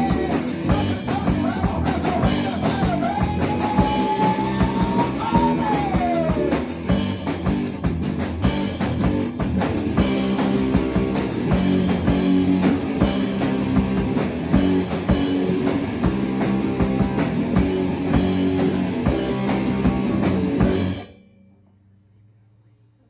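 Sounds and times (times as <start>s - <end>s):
rock band playing live: 0.0s - 21.1s.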